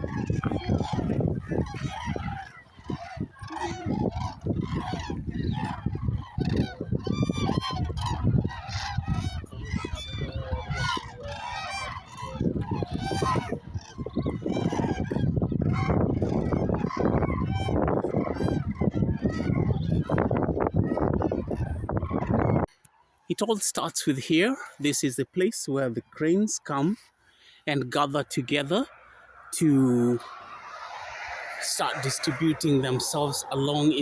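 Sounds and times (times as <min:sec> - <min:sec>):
cranes and geese calling: 0:00.0 - 0:23.3, 0:25.9 - 0:34.0.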